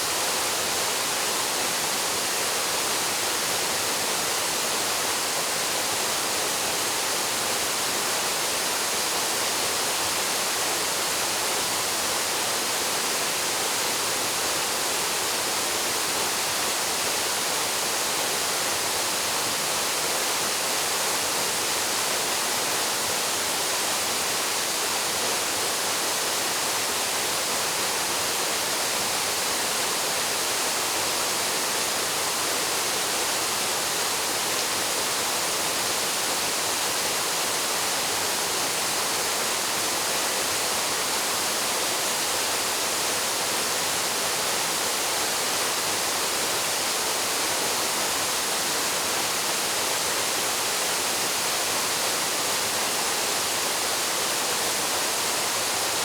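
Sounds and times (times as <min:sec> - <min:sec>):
waterfall: 0:00.0 - 0:56.0.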